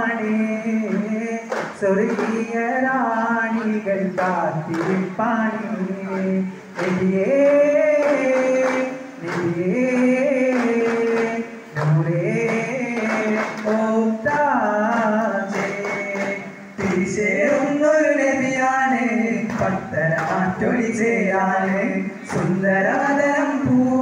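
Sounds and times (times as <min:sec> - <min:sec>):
men singing: 0:00.0 - 0:24.0.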